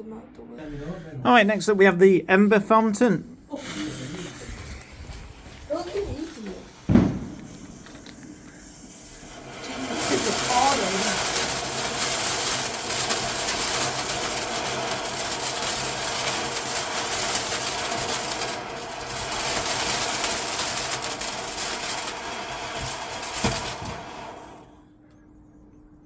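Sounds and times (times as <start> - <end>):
firework fountain hissing: 3.4 - 24.8.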